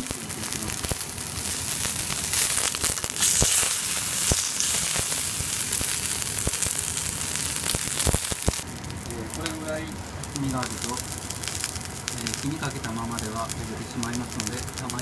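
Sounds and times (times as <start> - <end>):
fat popping: 0.0 - 15.0
steak sizzling in a frying pan: 0.0 - 15.0.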